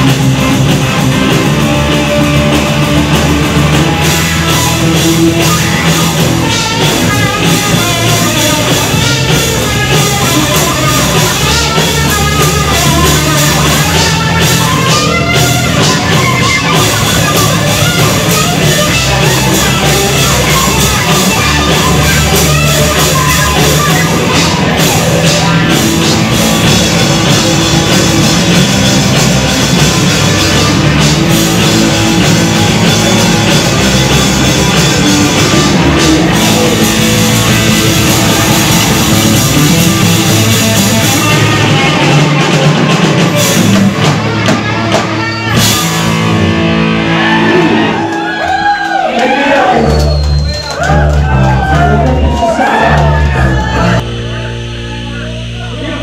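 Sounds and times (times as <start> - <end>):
drum kit with crashing cymbals: 0.0 - 47.6
bass guitar: 0.0 - 56.0
distorted electric guitar: 0.0 - 56.0.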